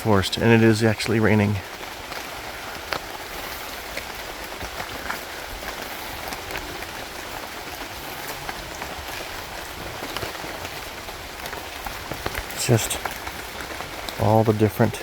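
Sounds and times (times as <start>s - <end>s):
rain falling on foliage: 0.0s - 15.0s.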